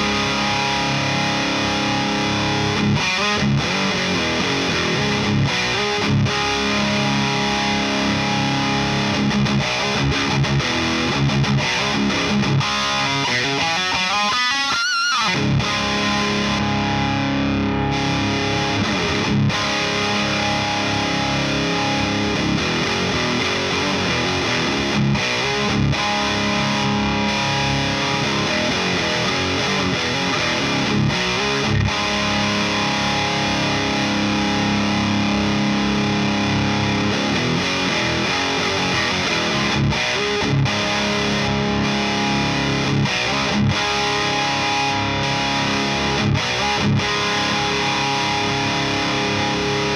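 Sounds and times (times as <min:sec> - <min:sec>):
distorted electric guitar riffs: 0:00.0 - 0:49.9.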